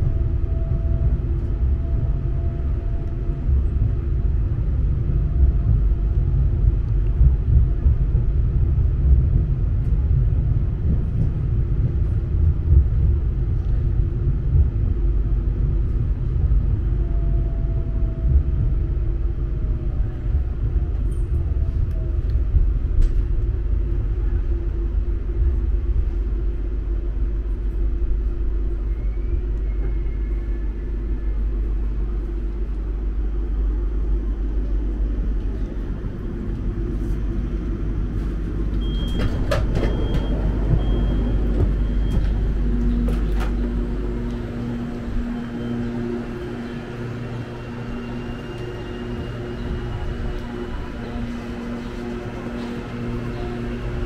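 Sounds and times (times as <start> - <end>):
constant hum: 0.0 - 54.0
train rumbling in motion: 0.0 - 54.0.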